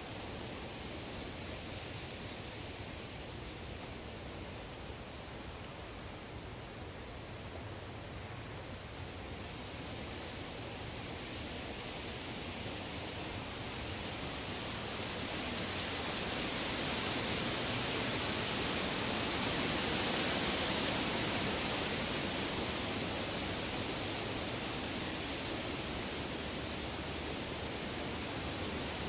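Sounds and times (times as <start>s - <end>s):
wind through leaves: 0.0s - 29.0s.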